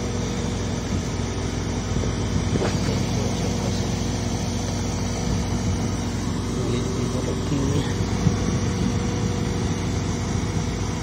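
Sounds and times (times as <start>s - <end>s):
refrigeration compressor humming: 0.0s - 11.0s.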